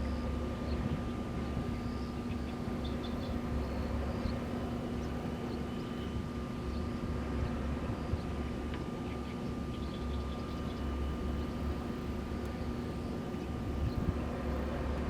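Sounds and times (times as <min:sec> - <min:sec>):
wind turbines humming: 0:00.0 - 0:15.0.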